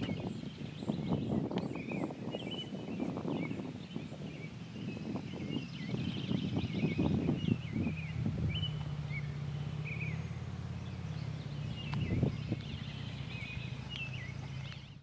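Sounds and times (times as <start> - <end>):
birds chirping: 0.0 - 15.0
wind buffeting microphone: 0.0 - 15.0.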